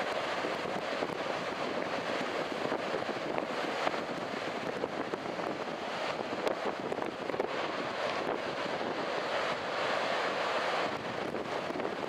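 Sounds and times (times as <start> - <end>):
breaking surf: 0.0 - 12.0
wind buffeting microphone: 0.0 - 12.0.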